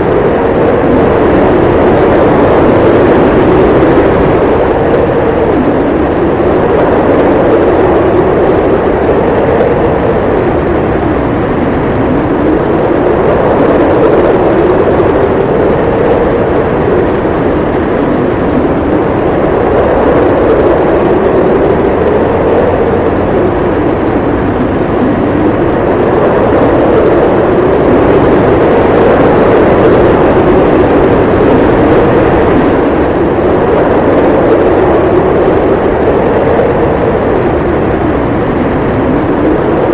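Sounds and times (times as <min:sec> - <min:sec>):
howling blizzard wind: 0:00.0 - 0:39.9.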